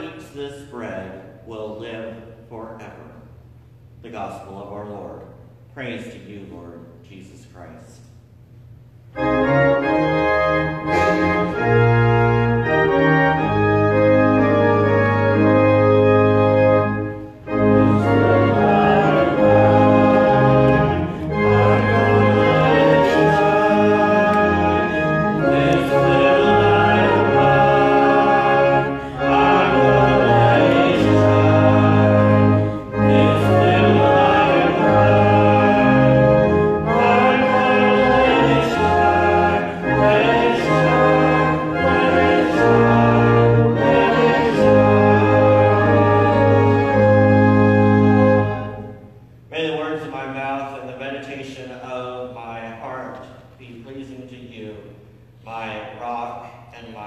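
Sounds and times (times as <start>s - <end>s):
church organ playing: 0.0s - 3.0s, 9.0s - 52.9s.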